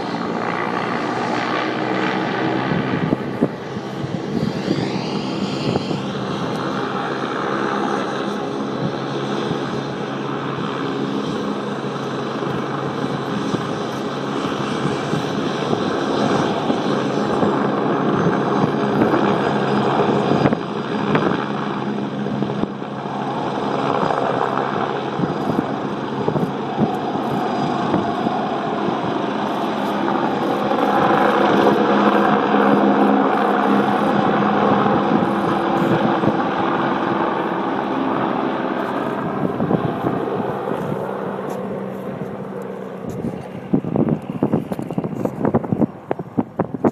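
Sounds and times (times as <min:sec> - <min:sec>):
helicopter turbine and rotor: 0:00.0 - 0:46.9.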